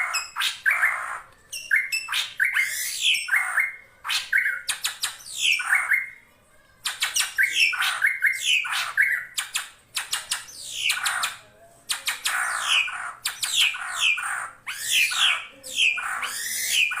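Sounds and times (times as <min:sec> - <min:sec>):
bird harsh calls and whistles: 0:00.0 - 0:06.2, 0:06.8 - 0:17.0.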